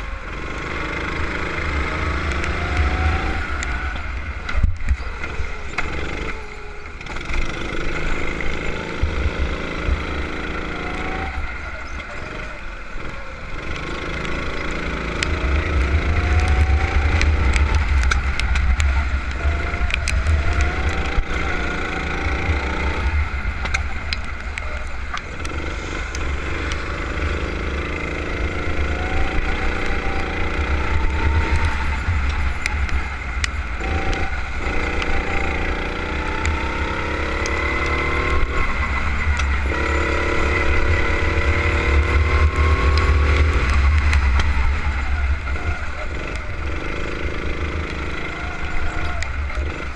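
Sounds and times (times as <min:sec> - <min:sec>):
go-kart engine accelerating: 0:00.0 - 0:49.9.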